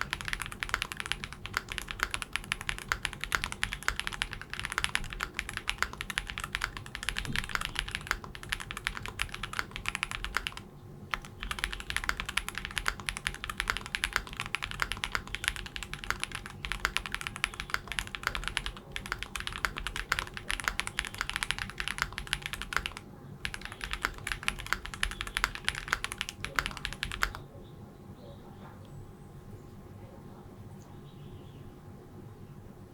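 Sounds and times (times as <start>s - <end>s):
fast typing on mechanical keyboard: 0.0s - 27.4s.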